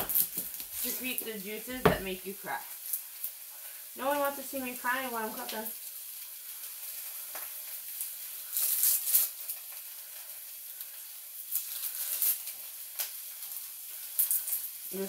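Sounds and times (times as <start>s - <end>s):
frying crackles: 0.0s - 15.0s
vegetables sizzling in skillet: 0.0s - 15.0s.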